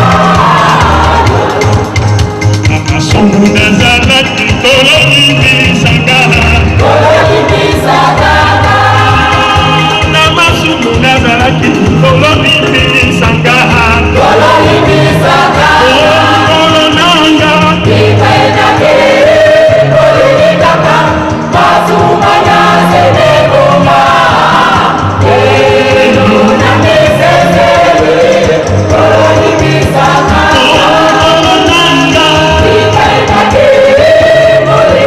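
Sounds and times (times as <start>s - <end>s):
gospel choir singing: 0.0s - 35.0s
pulsing bass line: 0.0s - 35.0s.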